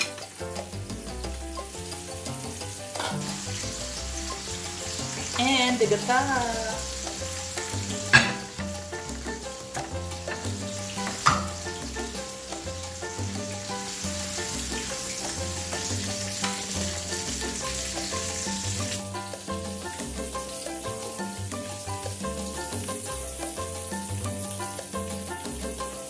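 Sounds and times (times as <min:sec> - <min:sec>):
instrumental music with bass line: 0:00.0 - 0:26.0
pot sizzling on stove: 0:00.0 - 0:26.0.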